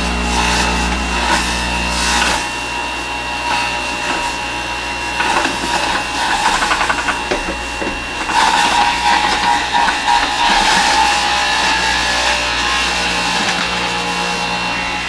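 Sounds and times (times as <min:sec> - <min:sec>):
juicer motor grinding produce: 0:00.0 - 0:15.0.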